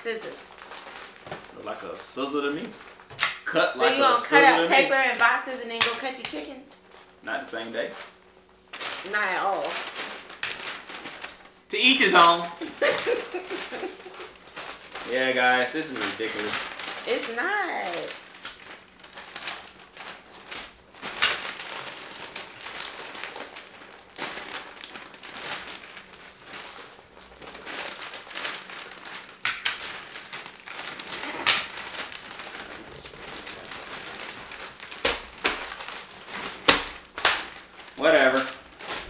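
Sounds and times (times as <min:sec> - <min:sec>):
wrapping paper rustling: 0:00.0 - 0:39.0.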